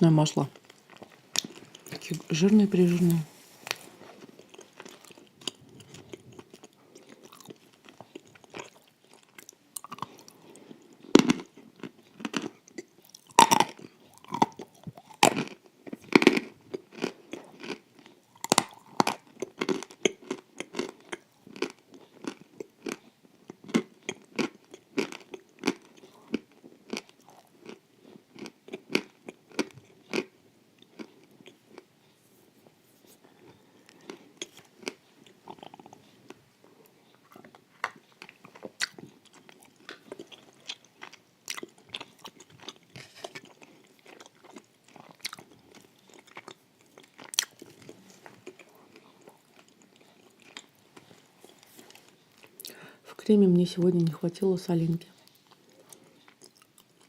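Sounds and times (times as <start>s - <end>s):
crunchy wafers being chewed: 0.5s - 32.2s, 33.2s - 52.9s, 55.1s - 57.0s.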